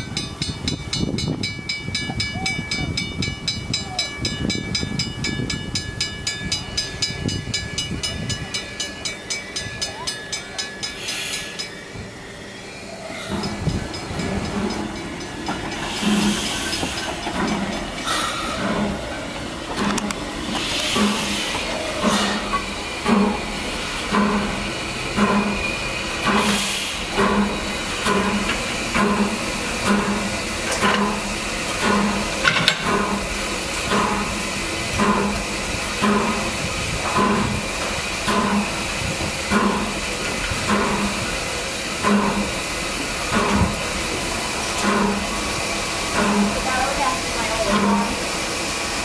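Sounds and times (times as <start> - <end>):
steam locomotive chuffing: 0.0 - 49.0
steam locomotive hissing: 0.0 - 49.0.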